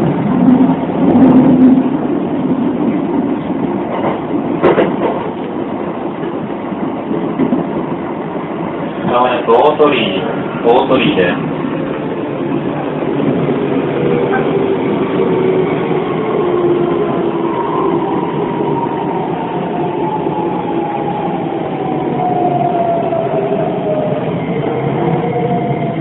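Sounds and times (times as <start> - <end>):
electric train on rails: 0.0 - 26.0.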